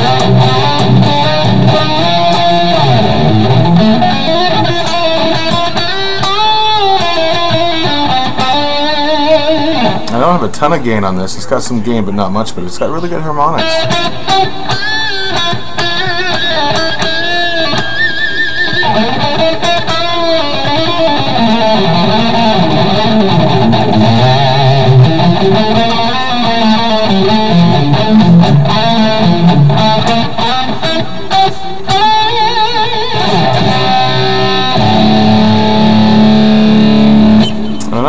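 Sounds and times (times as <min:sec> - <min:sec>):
overdriven electric guitar lead: 0:00.0 - 0:11.2, 0:12.9 - 0:38.0.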